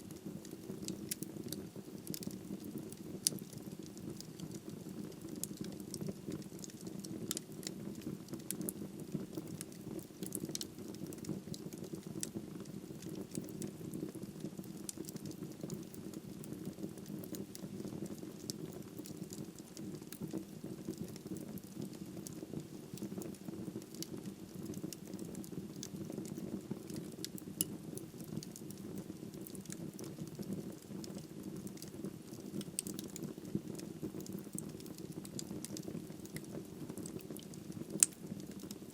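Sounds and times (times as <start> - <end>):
logs crackling and popping: 0.0 - 38.9.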